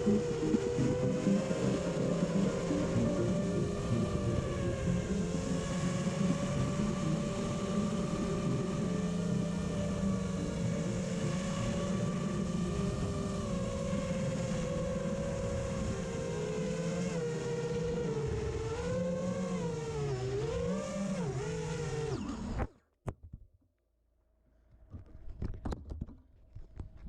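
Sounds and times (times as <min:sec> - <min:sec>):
quadcopter motors whining: 0:00.0 - 0:22.8.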